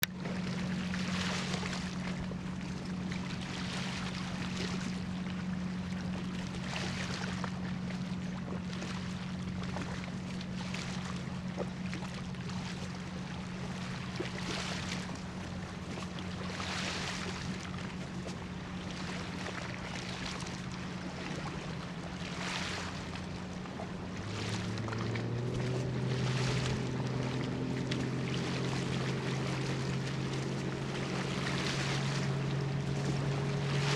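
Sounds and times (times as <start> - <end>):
ship engine humming: 0.0 - 33.9.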